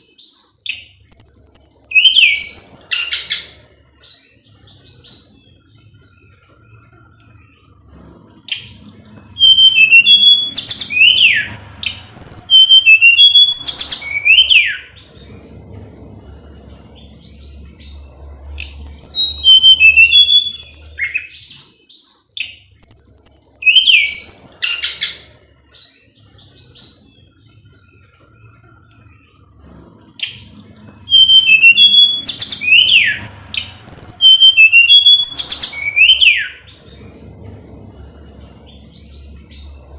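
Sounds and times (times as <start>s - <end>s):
bird singing whistles and chirps: 0.2s - 5.6s, 7.8s - 15.5s, 16.2s - 27.4s, 29.5s - 37.2s.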